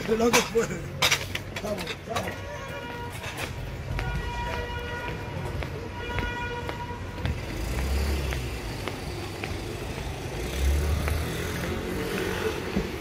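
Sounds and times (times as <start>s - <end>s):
cars passing with low rumble: 0.0s - 13.0s.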